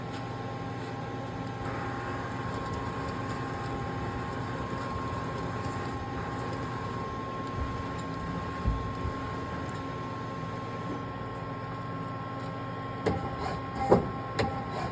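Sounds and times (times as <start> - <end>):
lathe machine hum and whine: 0.0 - 14.9.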